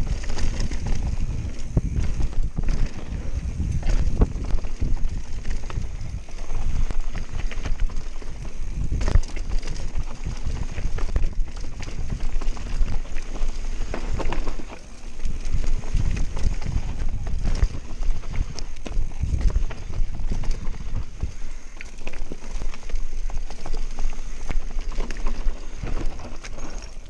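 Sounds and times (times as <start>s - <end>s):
bike clattering: 0.0s - 27.0s
bike tyres on dirt: 0.0s - 27.0s
wind rumble on microphone: 0.0s - 27.0s.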